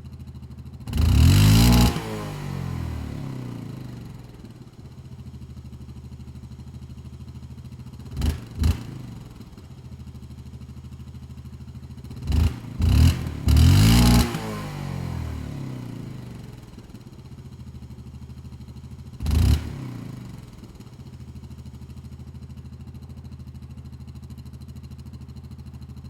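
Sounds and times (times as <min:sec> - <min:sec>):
atv engine idling and revving: 0:00.0 - 0:26.0.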